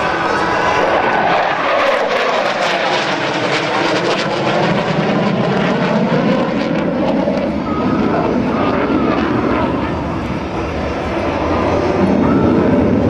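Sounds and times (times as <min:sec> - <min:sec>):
jet engine passing: 0:00.0 - 0:13.0.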